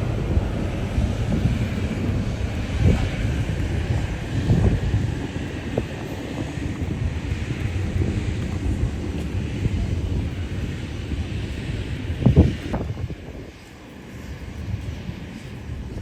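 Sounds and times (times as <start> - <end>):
jet aircraft rumble: 0.0 - 16.0
wind on microphone: 0.0 - 16.0.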